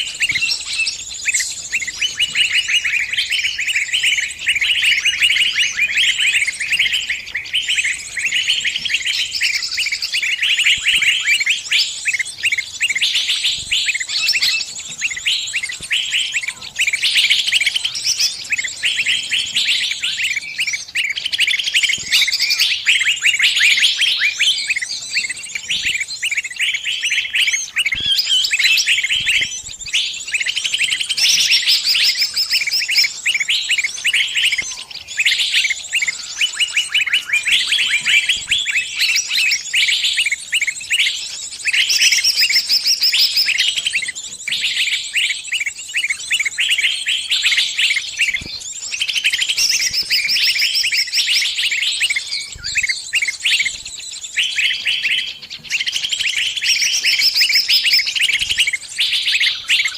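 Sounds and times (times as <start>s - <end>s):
small bird distress chirps: 0.0s - 59.9s.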